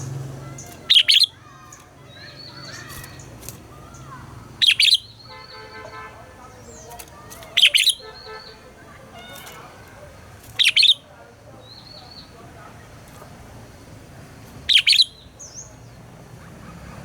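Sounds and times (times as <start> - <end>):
bulbuls singing: 0.0 - 17.0.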